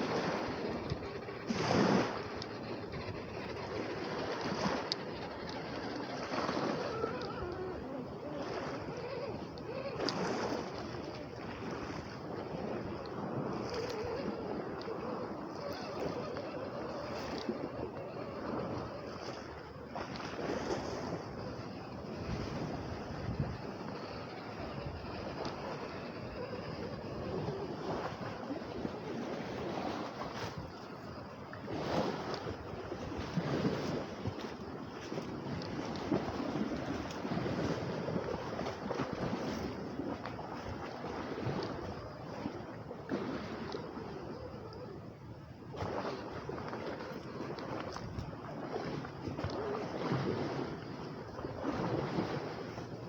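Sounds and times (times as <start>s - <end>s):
waves washing against shore: 0.0s - 53.0s
wind gusting on microphone: 0.0s - 53.0s.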